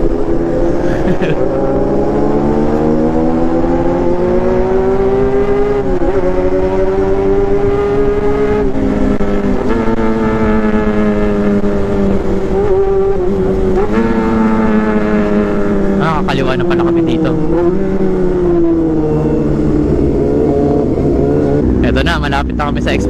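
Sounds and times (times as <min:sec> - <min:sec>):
motorcycle engine running hard: 0:00.0 - 0:23.0
wind and road noise: 0:00.0 - 0:23.0.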